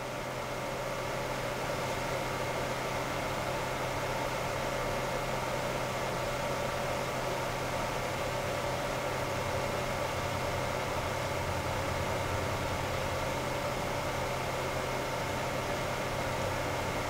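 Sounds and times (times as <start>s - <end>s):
computer fan whirring: 0.0s - 17.0s.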